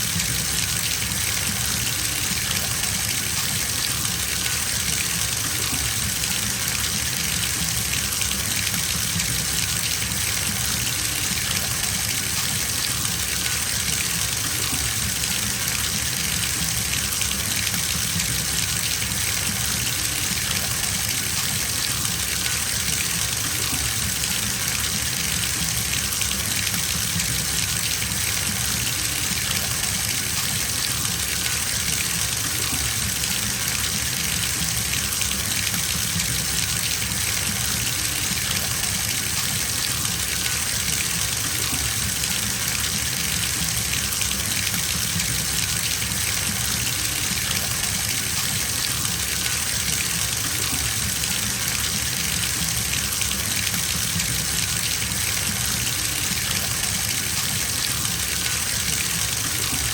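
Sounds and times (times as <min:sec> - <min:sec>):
water gushing into bathtub: 0:00.0 - 0:59.9.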